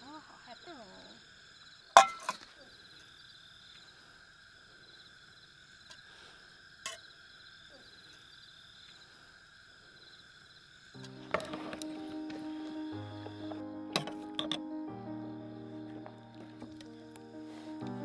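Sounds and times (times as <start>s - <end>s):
night insects chirping: 0.0s - 18.0s.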